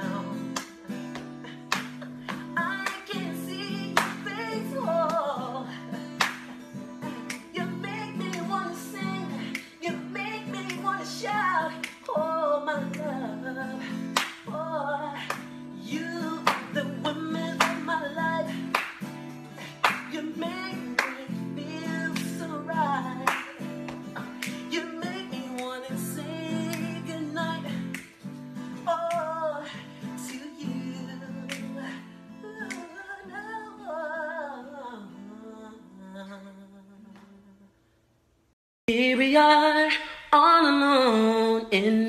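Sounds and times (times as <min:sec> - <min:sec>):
man singing: 0:00.0 - 0:06.2, 0:07.0 - 0:18.8, 0:19.6 - 0:28.0, 0:28.6 - 0:37.6, 0:38.9 - 0:42.0
strummed acoustic guitar: 0:00.0 - 0:35.4.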